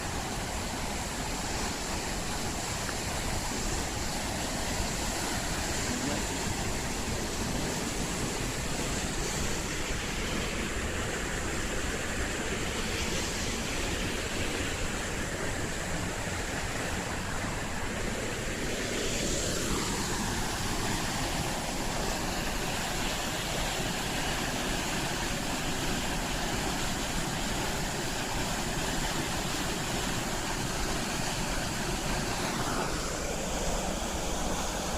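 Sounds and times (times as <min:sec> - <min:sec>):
whitewater rushing: 0:00.0 - 0:34.9.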